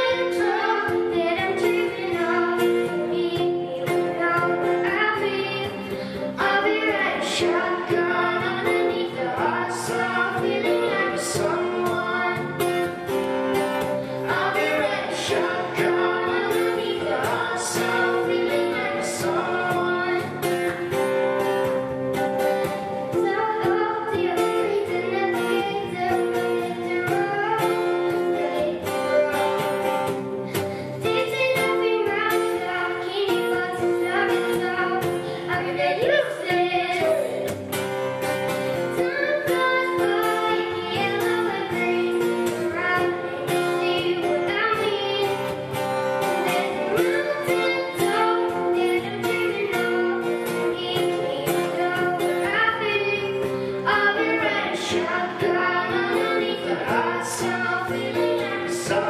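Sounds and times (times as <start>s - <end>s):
girl singing pop song: 0.0s - 59.0s
strummed acoustic guitar: 0.0s - 59.0s.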